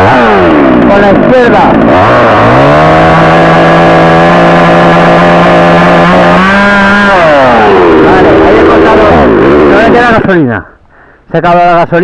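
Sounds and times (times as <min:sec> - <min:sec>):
chainsaw cutting branch: 0:00.0 - 0:10.4.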